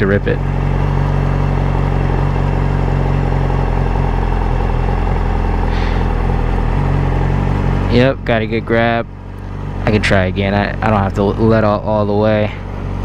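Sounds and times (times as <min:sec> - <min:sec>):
motorcycle engine idling and pulling away: 0:00.0 - 0:13.0.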